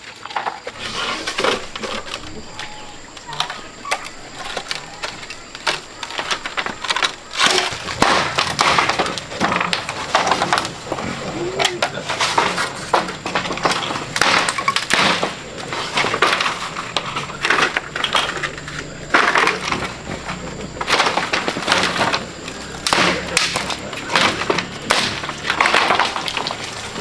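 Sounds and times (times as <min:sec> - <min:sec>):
bamboo cracking and splintering: 0:00.0 - 0:27.0.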